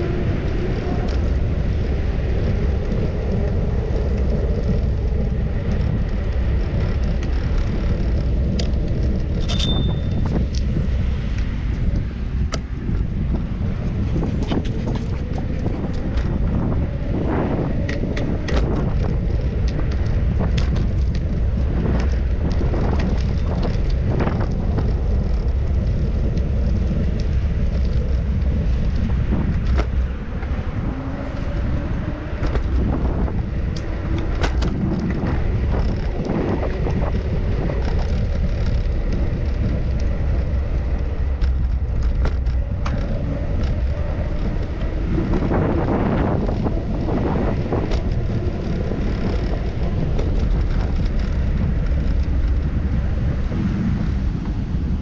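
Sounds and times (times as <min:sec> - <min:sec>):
tyre and road noise: 0:00.0 - 0:55.0
wind rumble on microphone: 0:00.0 - 0:55.0
bicycle clicks and rattles: 0:00.2 - 0:53.6.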